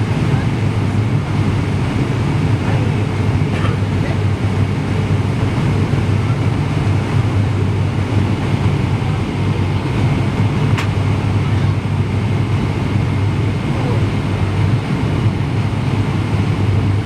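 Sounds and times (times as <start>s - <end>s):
jet cabin engine rumble: 0.0s - 17.0s.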